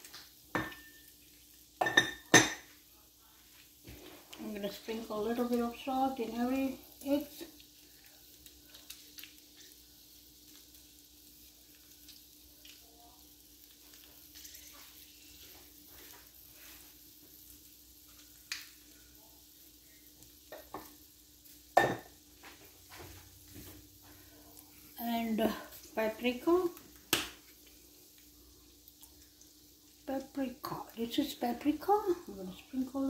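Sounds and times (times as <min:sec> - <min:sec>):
oil sizzling on hot griddle: 0:00.0 - 0:33.0.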